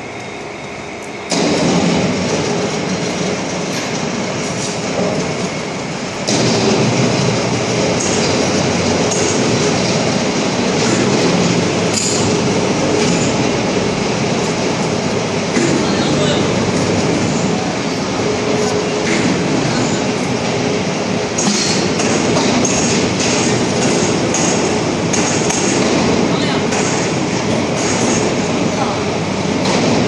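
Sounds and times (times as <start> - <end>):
factory machinery rumble and clatter: 0.0 - 30.0.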